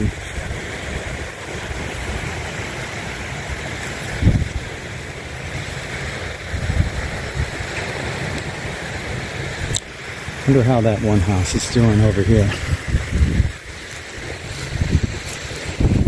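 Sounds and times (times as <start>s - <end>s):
small waves washing onto sand: 0.0s - 16.0s
steady wind hiss: 0.0s - 16.0s
wind rumbling against microphone: 0.0s - 16.0s.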